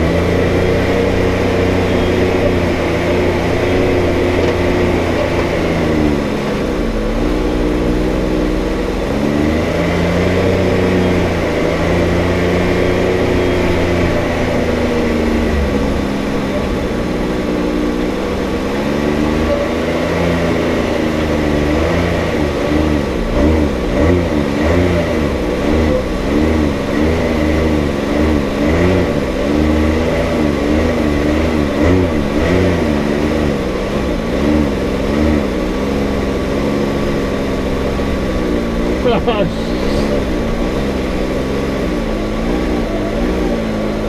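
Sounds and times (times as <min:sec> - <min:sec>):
turbocharged engine revving under load: 0:00.0 - 0:44.0.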